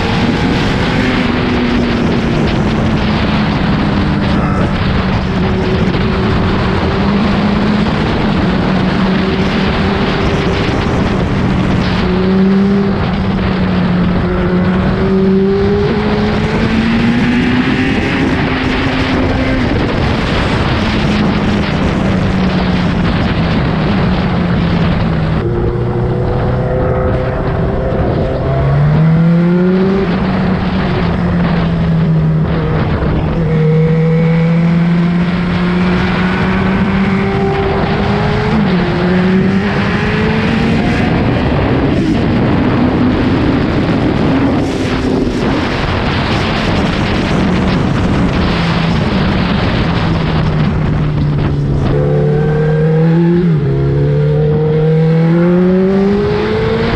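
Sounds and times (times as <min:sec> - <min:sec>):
motorcycle engine revving: 0:00.0 - 0:56.9
wind rush: 0:00.0 - 0:56.9.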